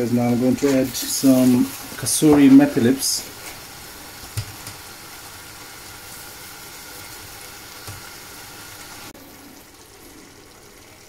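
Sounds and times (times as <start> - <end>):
curry sizzling in a saucepan: 0.0 - 11.0.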